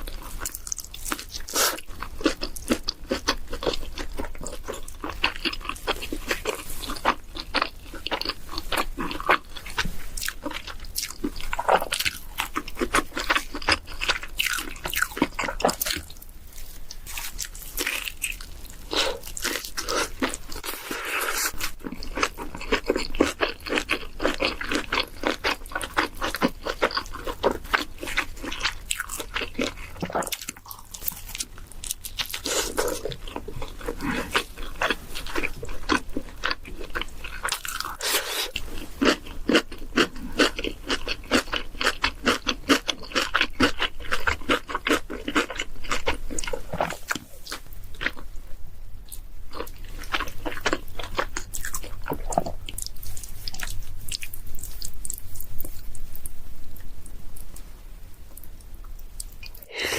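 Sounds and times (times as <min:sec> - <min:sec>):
crunchy chewing: 0:00.0 - 0:48.3, 0:49.1 - 0:57.7.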